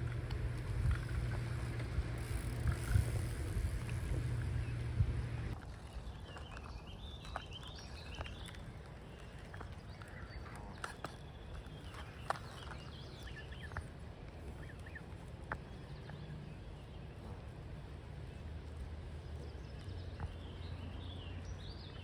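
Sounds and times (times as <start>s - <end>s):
quiet outdoor background noise: 0.0s - 22.0s.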